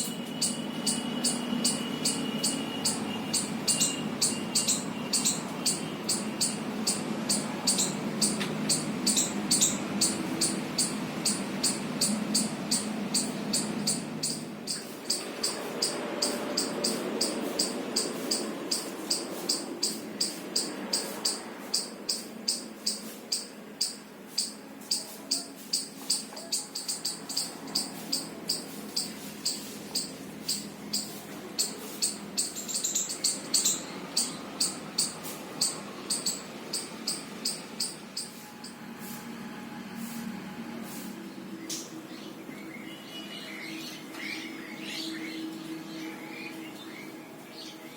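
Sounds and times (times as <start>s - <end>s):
insect chirping: 0.0s - 38.8s
low background hum: 0.0s - 47.9s.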